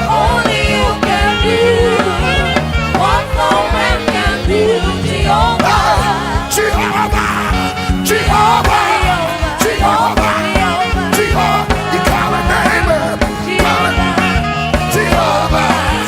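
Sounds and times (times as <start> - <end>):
band with drum beat and bass: 0.0 - 16.0
voices singing gospel: 0.0 - 16.0.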